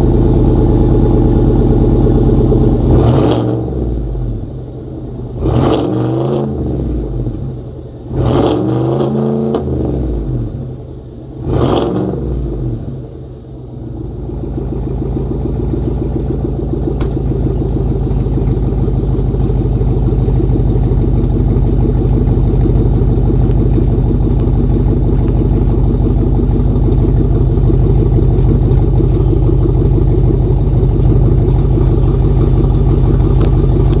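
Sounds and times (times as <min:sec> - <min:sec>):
engine revving: 0:00.0 - 0:04.5, 0:05.3 - 0:10.8, 0:11.4 - 0:13.0, 0:18.4 - 0:34.0
exhaust drone: 0:00.0 - 0:34.0.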